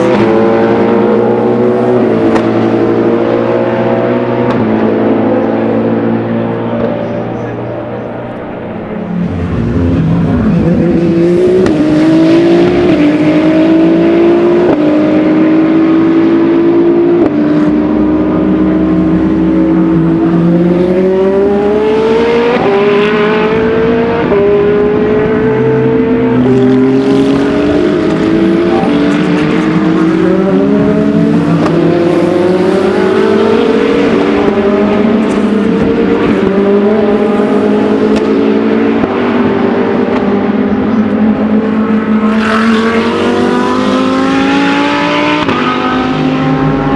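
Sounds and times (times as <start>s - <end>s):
racing cars accelerating: 0.0s - 46.9s.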